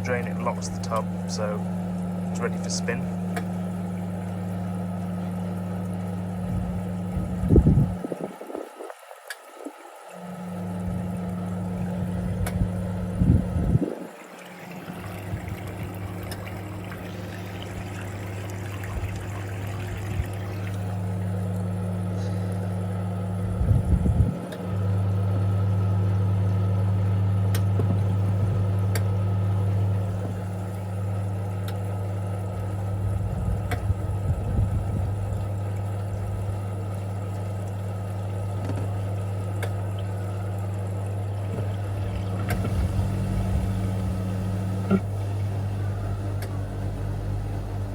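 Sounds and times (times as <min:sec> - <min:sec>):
water draining from washing machine: 0:00.0 - 0:02.4, 0:03.1 - 0:47.9
low electrical hum: 0:00.0 - 0:47.9.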